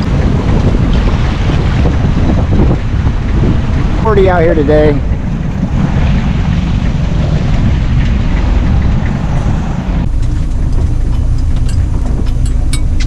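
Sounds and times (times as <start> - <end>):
boat motor rumbling: 0.0 - 13.0
wind on microphone: 0.0 - 13.0.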